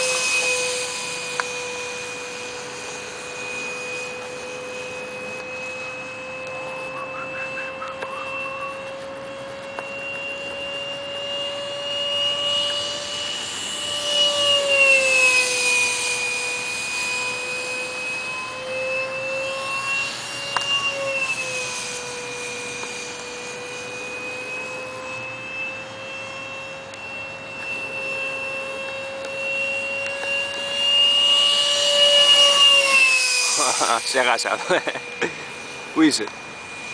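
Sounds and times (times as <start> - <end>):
model jet electric fan whining: 0.0 - 36.9.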